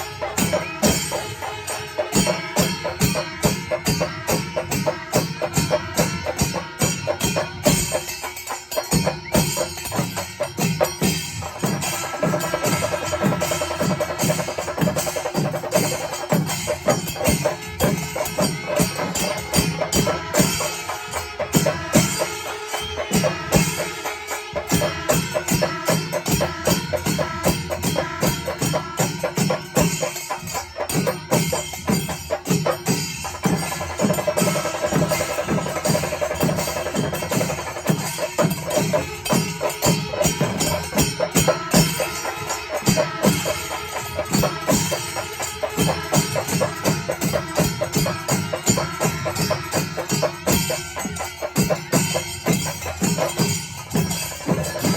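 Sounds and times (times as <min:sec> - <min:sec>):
drums playing driving rhythm: 0:00.0 - 0:54.9
hand cymbals clashing: 0:00.0 - 0:54.9.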